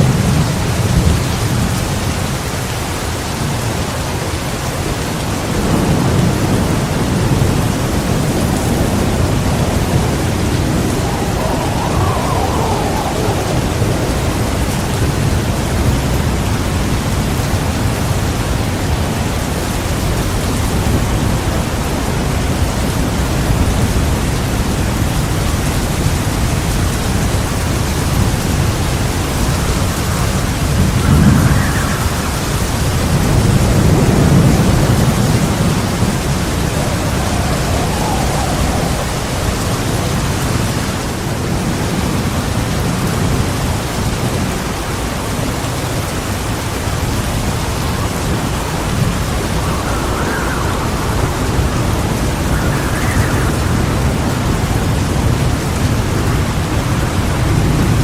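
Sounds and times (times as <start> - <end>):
heavy rain pouring: 0.0 - 58.0
rolling thunder: 0.0 - 58.0.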